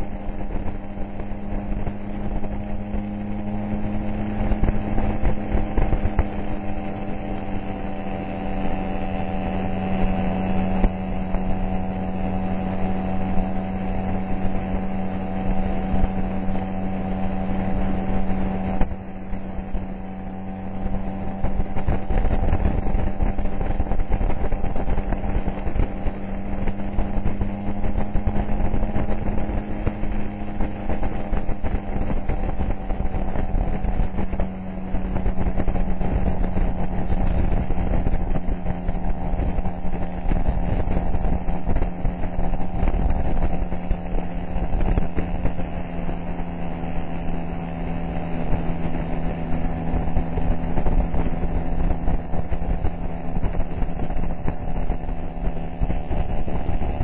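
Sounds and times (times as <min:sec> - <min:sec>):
motor scooter engine droning: 0:00.0 - 0:57.0
wind on microphone: 0:00.0 - 0:57.0.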